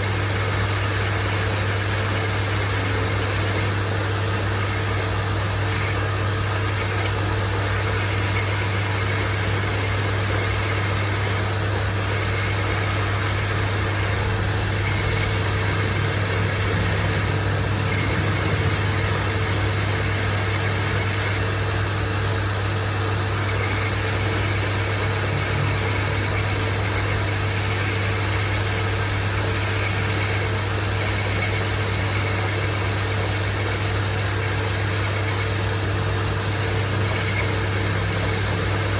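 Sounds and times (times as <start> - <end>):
faint steady whine: 0.0 - 38.9
lathe motor hum: 0.0 - 38.9.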